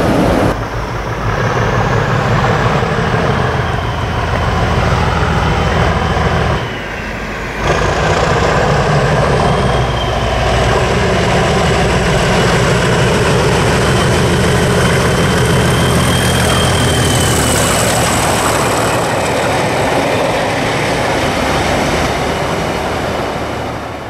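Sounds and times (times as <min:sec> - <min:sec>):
passing diesel train: 0:00.0 - 0:24.0
thin high whine: 0:00.0 - 0:24.0.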